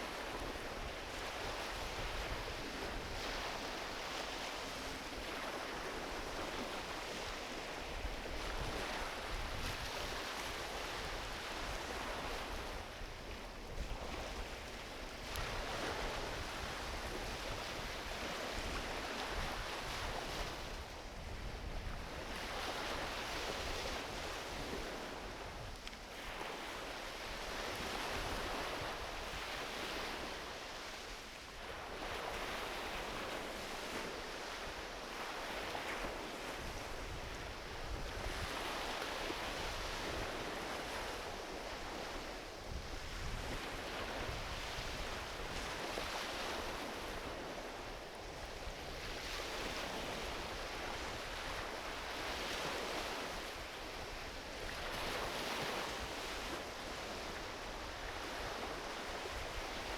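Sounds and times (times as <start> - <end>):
ocean waves washing onto beach: 0.0 - 59.9
wind rumble on microphone: 0.0 - 59.9.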